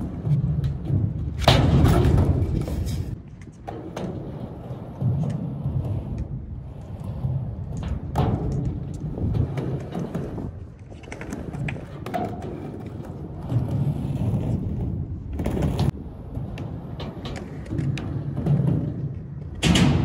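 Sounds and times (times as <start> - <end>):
skateboard clicks: 0.0 - 20.0
skateboard wheels rolling on concrete: 0.0 - 20.0.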